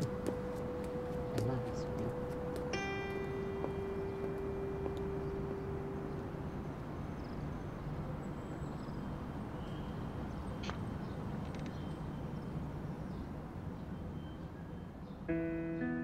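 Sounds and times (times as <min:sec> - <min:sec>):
distant city traffic: 0:00.0 - 0:16.0.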